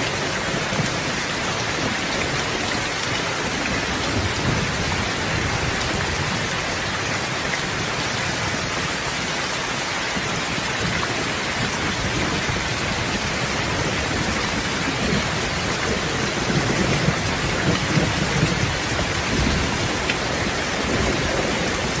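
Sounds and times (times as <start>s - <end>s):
low rolling thunder: 0.0s - 8.9s, 10.2s - 22.0s
steady rain: 0.0s - 22.0s.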